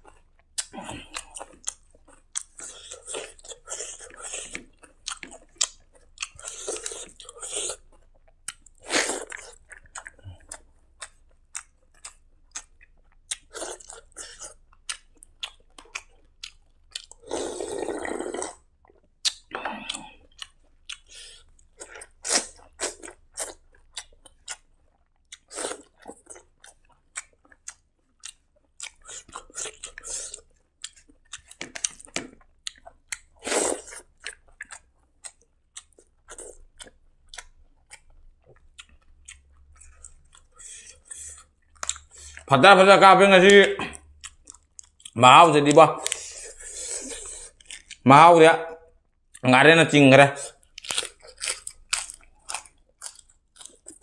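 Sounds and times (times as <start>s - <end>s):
person chewing food: 0.0s - 42.6s, 43.4s - 48.1s, 50.4s - 54.0s.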